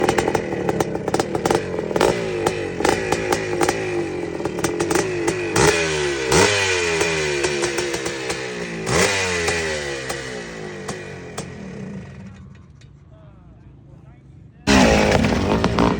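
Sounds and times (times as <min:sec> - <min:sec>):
motocross bikes revving: 0:00.0 - 0:12.2, 0:14.7 - 0:15.9.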